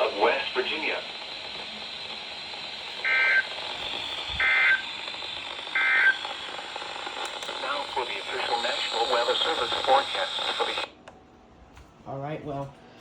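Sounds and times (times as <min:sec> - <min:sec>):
digital data tone bursts: 0:00.0 - 0:10.9
radio hiss: 0:00.0 - 0:11.0.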